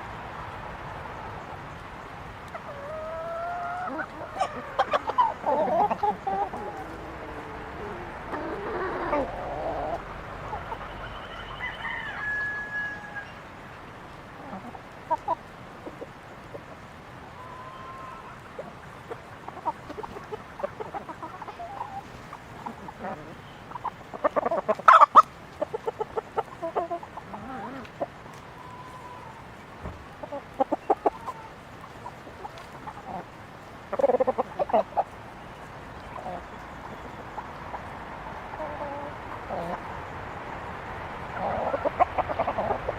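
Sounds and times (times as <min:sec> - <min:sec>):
chickens clucking: 0:00.8 - 0:42.9.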